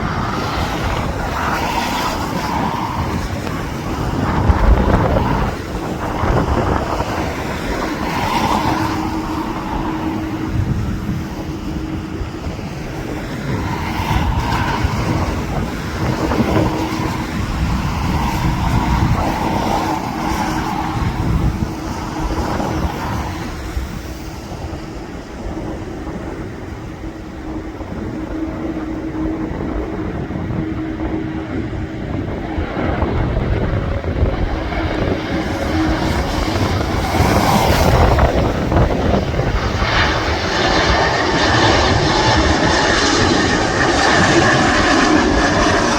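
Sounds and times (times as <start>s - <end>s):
aircraft engines rumbling: 0.0s - 45.9s
steady engine whine: 0.0s - 45.9s
wind buffeting microphone: 0.0s - 45.9s.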